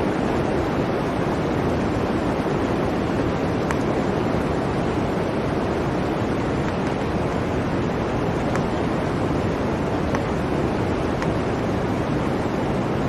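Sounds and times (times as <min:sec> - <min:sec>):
blizzard wind: 0:00.0 - 0:13.0.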